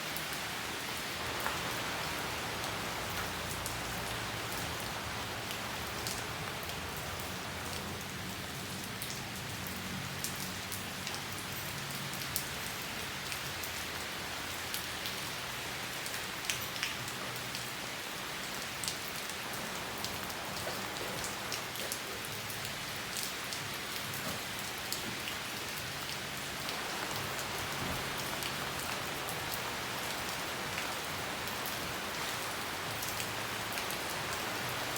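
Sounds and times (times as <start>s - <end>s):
rain falling on leafy plants: 0.0s - 34.9s.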